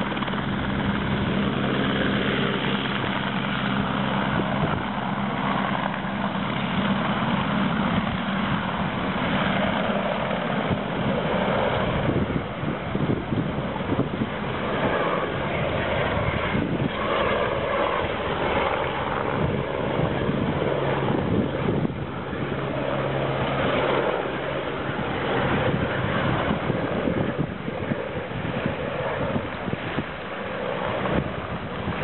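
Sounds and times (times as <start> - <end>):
helicopter rotor drone: 0.0 - 32.0
wind buffeting microphone: 0.0 - 32.0.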